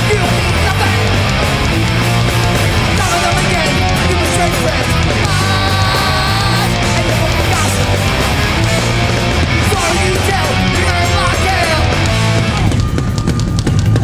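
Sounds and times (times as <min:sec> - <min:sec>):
bass guitar: 0:00.0 - 0:14.0
distorted guitars: 0:00.0 - 0:14.0
drums: 0:00.0 - 0:14.0.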